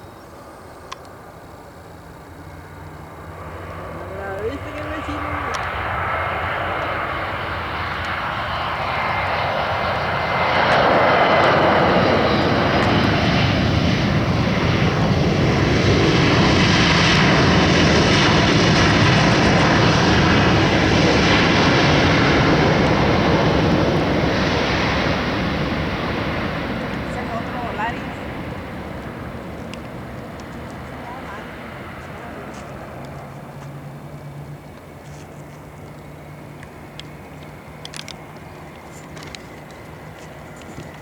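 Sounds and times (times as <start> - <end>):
jet engines roaring: 0.0 - 41.0.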